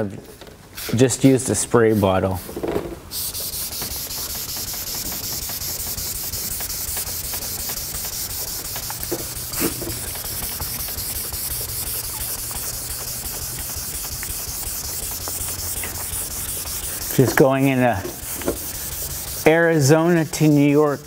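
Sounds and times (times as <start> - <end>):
sandpaper rubbing hiss: 3.1 - 21.0.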